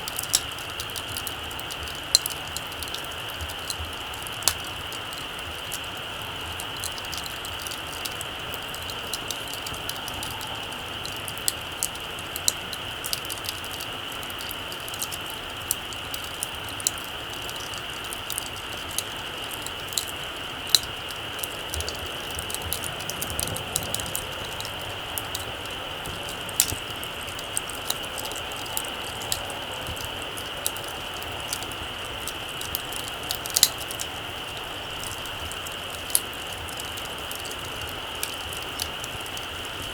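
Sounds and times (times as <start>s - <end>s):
campfire embers crackling: 0.0s - 39.9s
sharp pops and ticks: 0.0s - 39.9s
steady high-pitched hiss: 0.0s - 39.9s.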